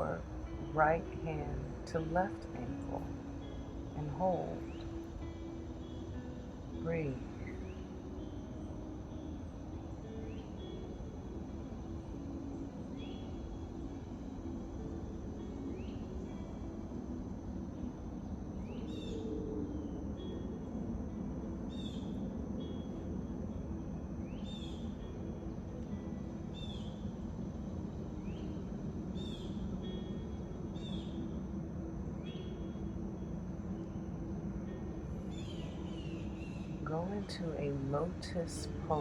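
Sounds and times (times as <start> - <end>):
low background rush: 0.0 - 39.0.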